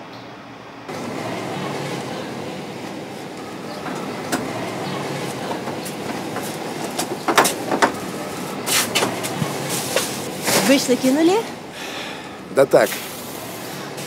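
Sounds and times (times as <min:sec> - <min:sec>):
city background rumble: 0:00.0 - 0:14.0.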